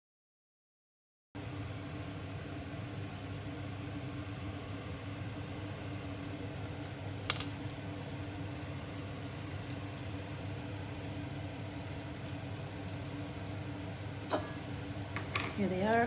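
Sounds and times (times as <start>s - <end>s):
steady low hum: 1.4s - 16.0s.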